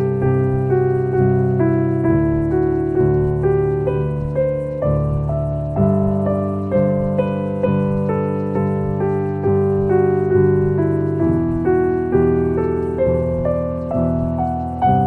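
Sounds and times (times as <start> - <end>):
electric piano music: 0.0 - 15.0.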